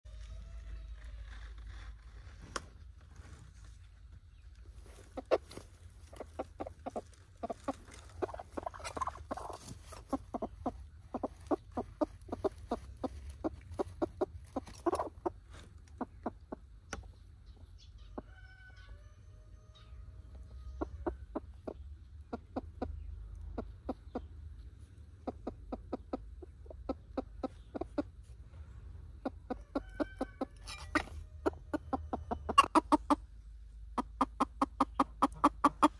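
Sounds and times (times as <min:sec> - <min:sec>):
hen clucking: 0:04.4 - 0:35.9.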